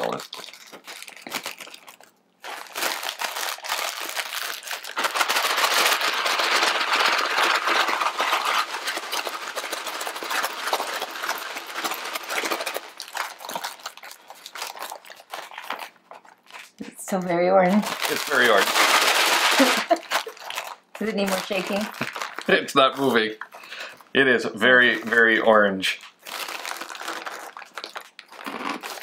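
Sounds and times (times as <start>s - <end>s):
noodle pieces rattling in packet: 0.0s - 16.8s, 17.6s - 24.0s, 24.6s - 29.0s.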